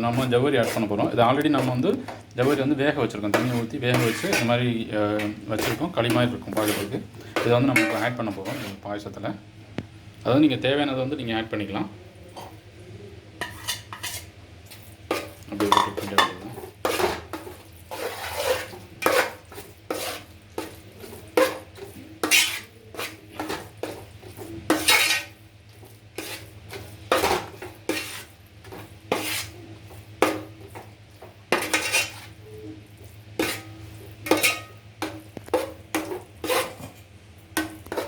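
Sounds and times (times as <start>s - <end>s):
spoon scraping pot: 0.0s - 8.9s, 13.4s - 38.0s.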